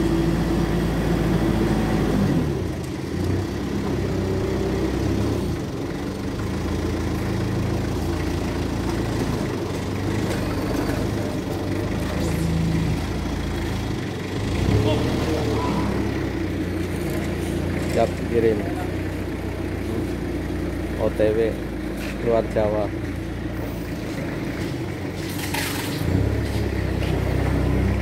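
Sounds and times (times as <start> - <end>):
forklift engine running: 0.0 - 28.0.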